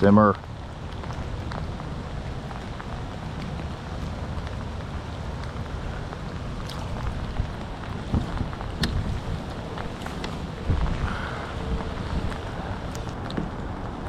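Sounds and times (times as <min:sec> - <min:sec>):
low rumble: 0:00.0 - 0:14.0
steady rain on water: 0:00.0 - 0:14.0.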